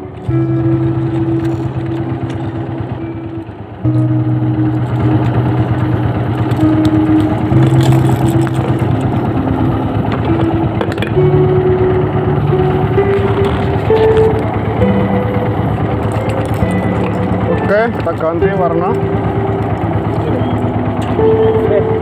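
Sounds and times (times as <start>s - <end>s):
boat engine low rumble: 0.0s - 22.0s.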